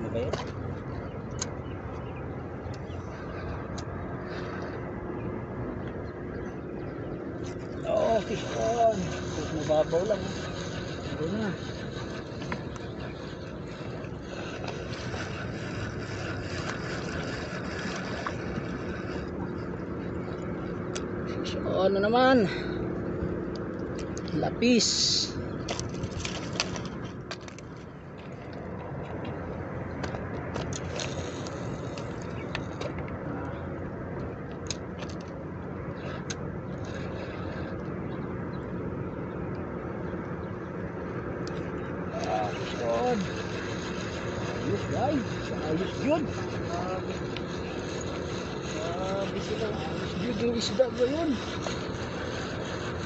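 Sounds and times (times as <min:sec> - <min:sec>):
low outdoor rumble: 0:00.0 - 0:53.0.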